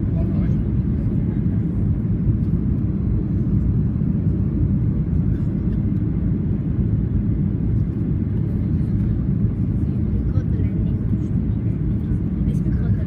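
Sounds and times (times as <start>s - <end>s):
airliner low rumble: 0.0s - 13.0s.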